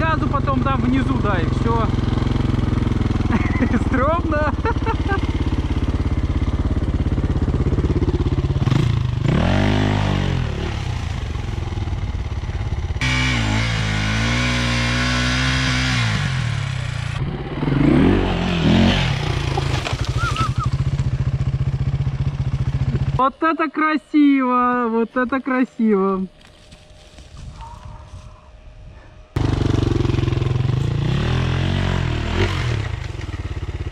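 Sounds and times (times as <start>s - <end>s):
dirt bike engine revving: 0.0s - 23.3s, 29.4s - 33.9s
dirt bike engine idling: 0.0s - 33.9s.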